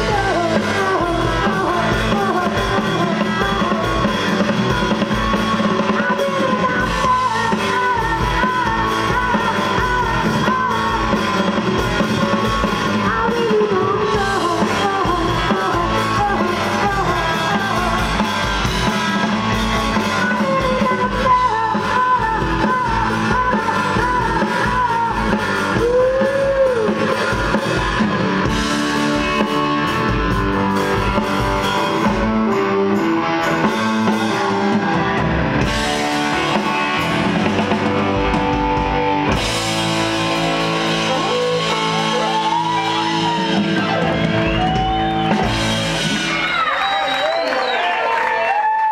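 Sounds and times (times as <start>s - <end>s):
drum kit: 0.0s - 47.8s
lead singer: 0.0s - 47.8s
keyboards: 0.0s - 48.4s
electric guitar: 0.0s - 48.9s.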